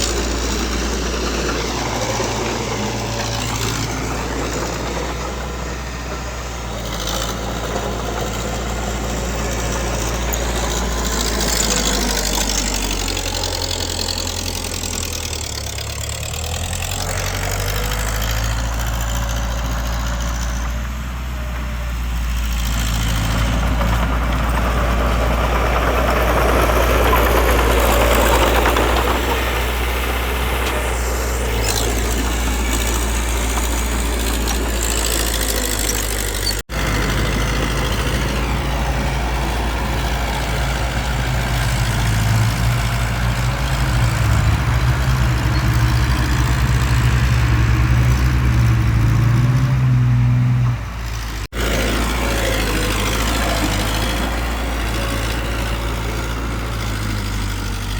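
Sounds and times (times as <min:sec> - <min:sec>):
heavy diesel engine under load: 0:00.0 - 0:57.9.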